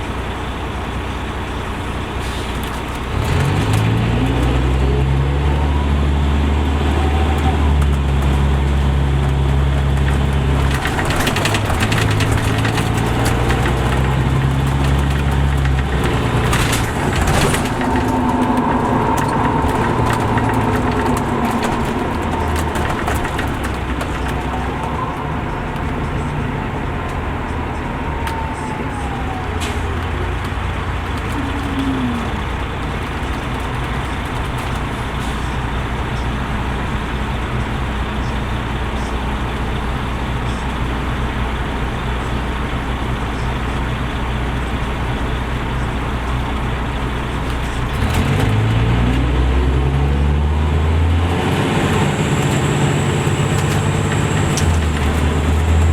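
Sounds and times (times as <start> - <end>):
bus engine humming: 0.0 - 55.9
bus transmission whine: 0.0 - 55.9.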